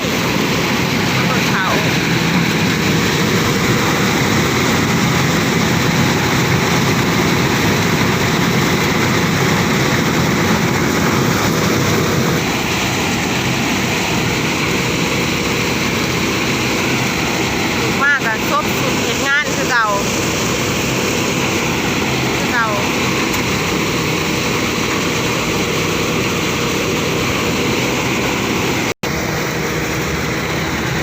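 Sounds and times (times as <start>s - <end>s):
threshing machine din: 0.0s - 31.0s.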